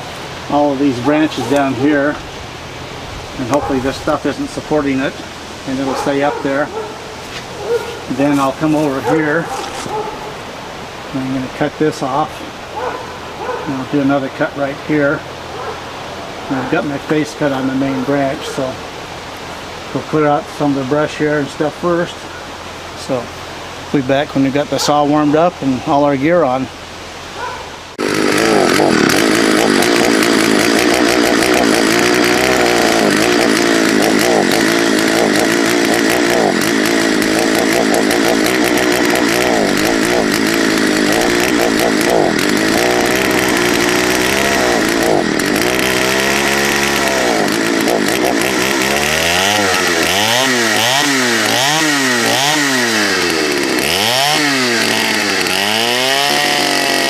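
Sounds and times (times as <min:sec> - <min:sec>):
two-stroke chainsaw running: 0:00.0 - 0:22.2, 0:27.9 - 0:57.0.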